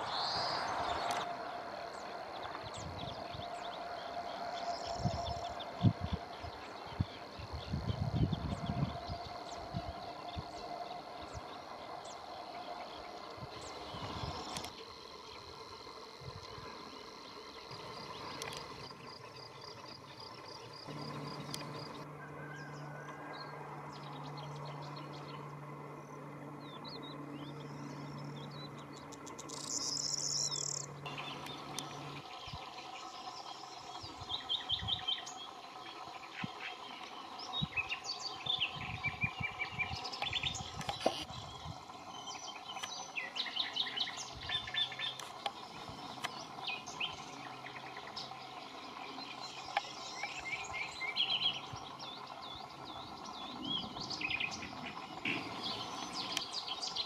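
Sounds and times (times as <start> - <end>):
rapid repeated bird chirps: 0.0 - 23.0, 23.9 - 57.0
wild birds singing: 0.0 - 57.0.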